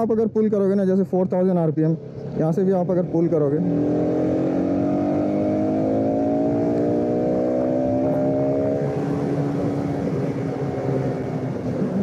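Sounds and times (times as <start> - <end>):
road and wind noise: 0.0 - 12.0
motorcycle engine accelerating: 2.0 - 12.0.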